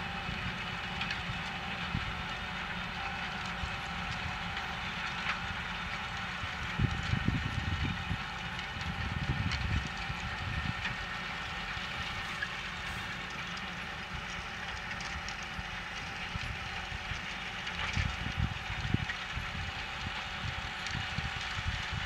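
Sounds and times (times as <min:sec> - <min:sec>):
tractor running and rattling: 0:00.0 - 0:22.0.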